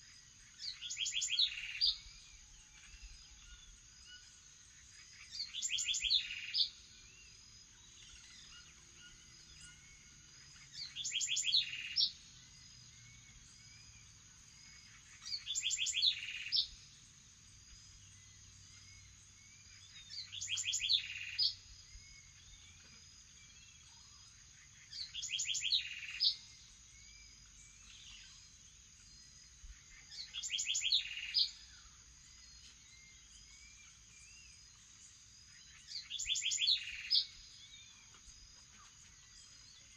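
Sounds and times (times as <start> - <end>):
songbird whistling song: 0.0 - 17.1, 17.7 - 39.9
faint calls of other birds: 0.0 - 39.9.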